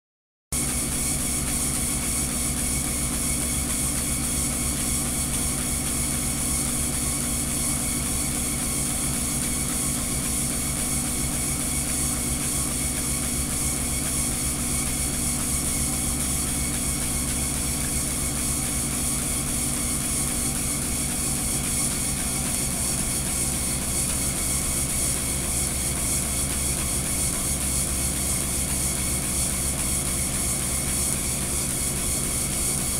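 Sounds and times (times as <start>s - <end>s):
treadmill motor hum and belt noise: 0.6s - 32.9s.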